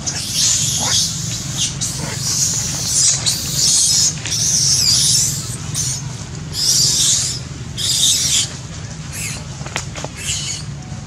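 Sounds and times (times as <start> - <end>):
baby monkey squealing: 0.0 - 8.5, 9.1 - 9.5, 10.2 - 10.7.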